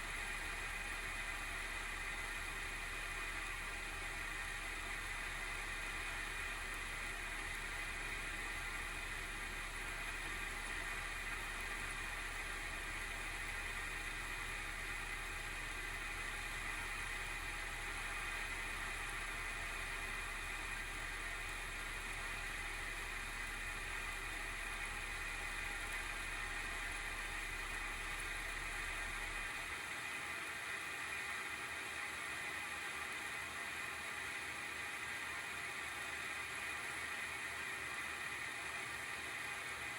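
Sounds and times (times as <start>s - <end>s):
graphics card fan whirring: 0.0s - 39.9s.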